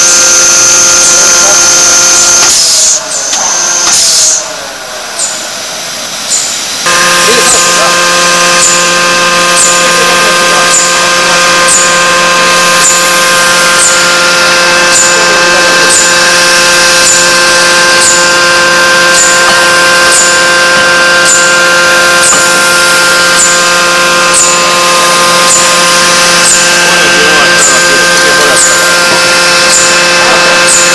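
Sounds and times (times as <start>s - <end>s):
forging machine humming: 0.0s - 30.9s.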